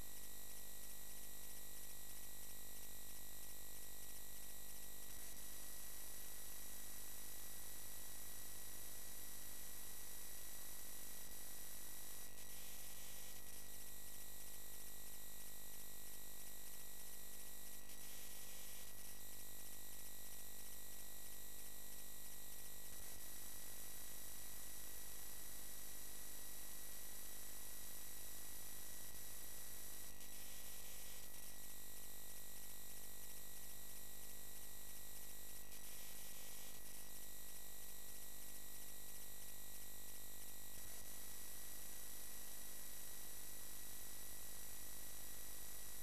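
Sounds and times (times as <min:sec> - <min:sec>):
faint electrical buzz and hum: 0:00.0 - 0:46.0
faint high-pitched whine: 0:00.0 - 0:46.0.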